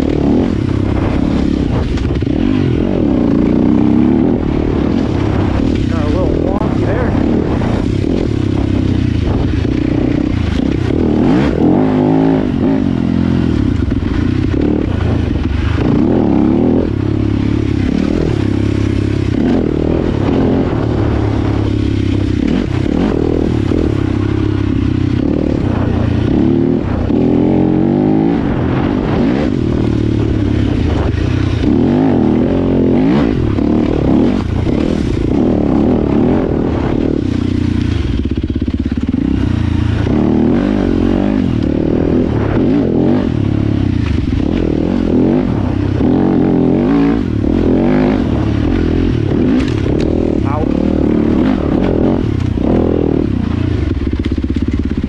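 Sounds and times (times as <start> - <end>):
bike rattling and scraping: 0.0 - 55.0
dirt bike engine revving: 0.0 - 55.0.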